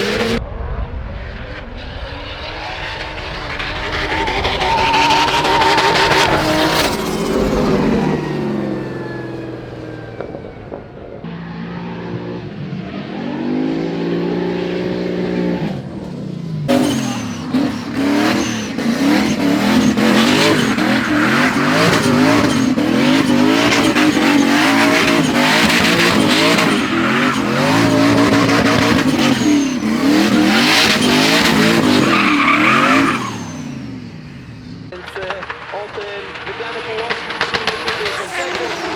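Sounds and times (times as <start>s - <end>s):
car engines revving hard: 0.0s - 0.4s, 1.4s - 38.9s
tyres screeching: 0.0s - 0.4s, 2.7s - 12.3s, 13.2s - 38.9s.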